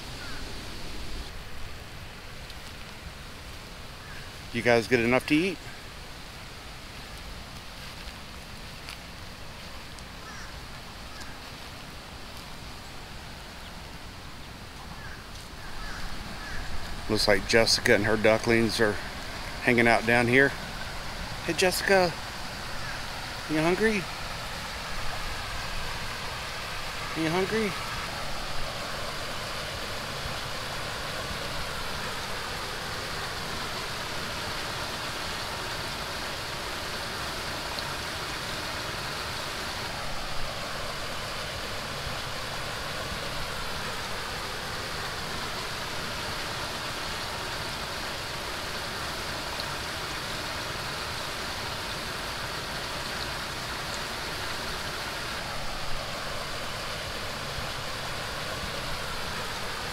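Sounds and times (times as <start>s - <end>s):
rushing background noise: 0.0s - 59.9s.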